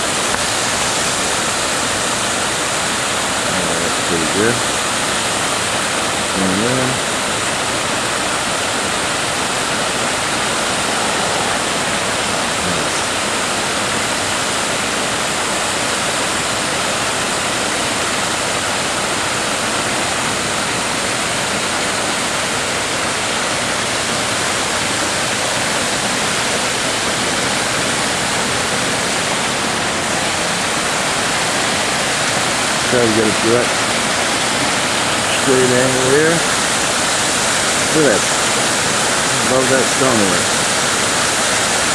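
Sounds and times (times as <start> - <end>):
water pouring over spillway: 0.0 - 41.9.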